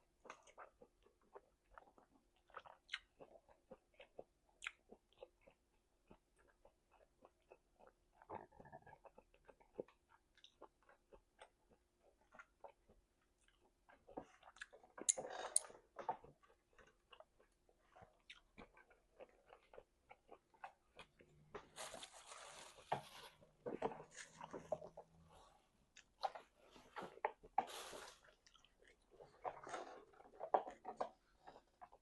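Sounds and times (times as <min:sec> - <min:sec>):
person chewing food: 0:00.0 - 0:21.8, 0:22.5 - 0:32.0.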